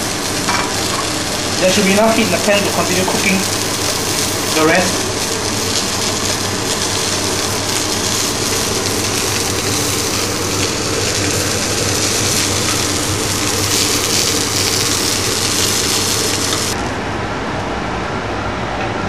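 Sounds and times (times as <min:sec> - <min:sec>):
fish sizzling in frying pan: 0:00.0 - 0:16.8
steady low hum: 0:00.0 - 0:19.0.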